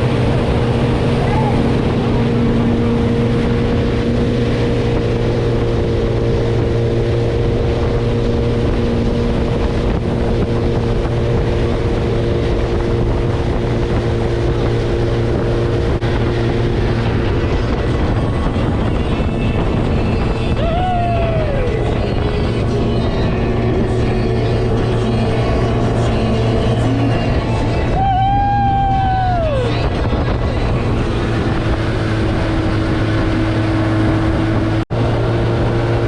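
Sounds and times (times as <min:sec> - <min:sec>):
motorboat engine humming: 0:00.0 - 0:36.0
water rushing: 0:00.0 - 0:36.0
wind: 0:00.0 - 0:36.0.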